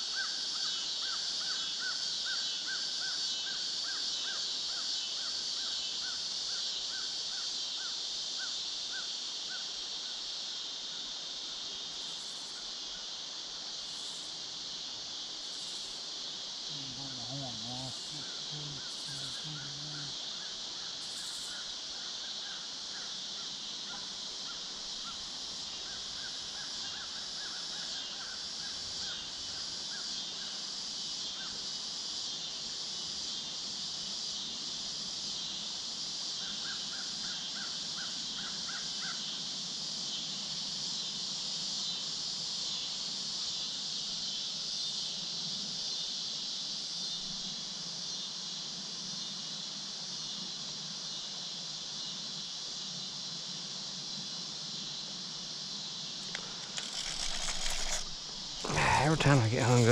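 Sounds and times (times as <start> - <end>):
crickets and katydids chirping: 0.0 - 59.9.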